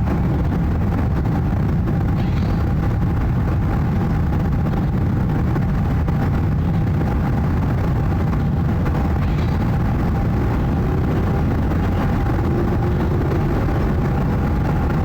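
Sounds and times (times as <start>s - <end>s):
faint jet engine tones: 0.0s - 15.0s
jet airliner low rumble: 0.0s - 15.0s.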